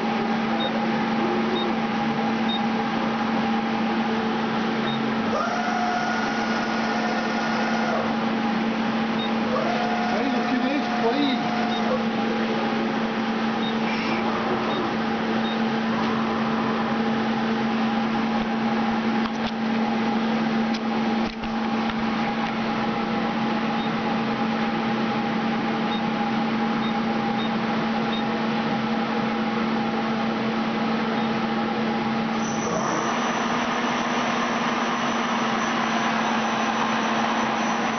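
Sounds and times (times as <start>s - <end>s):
lathe machine hum: 0.0s - 37.9s.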